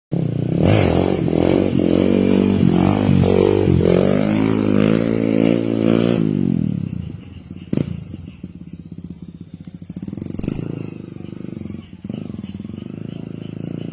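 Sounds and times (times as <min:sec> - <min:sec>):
dirt bike engine revving: 0:00.1 - 0:13.9.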